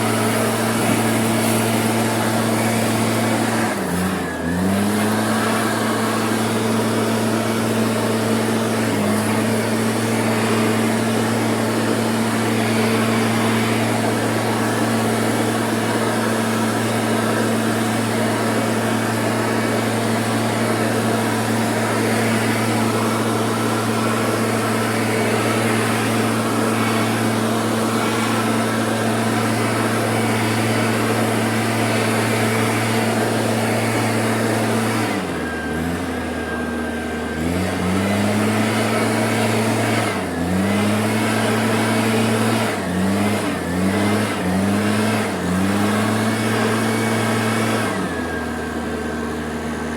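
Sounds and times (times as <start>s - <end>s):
motor humming: 0.0s - 49.9s.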